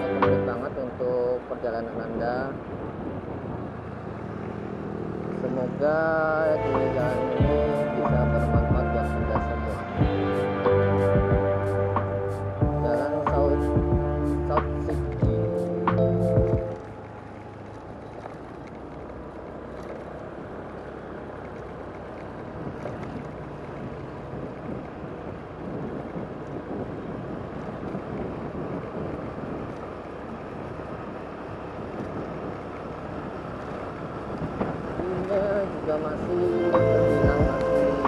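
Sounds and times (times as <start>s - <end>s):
wind rushing over microphone: 0.0s - 21.3s, 22.0s - 38.0s
road noise from moving vehicle: 0.0s - 38.0s.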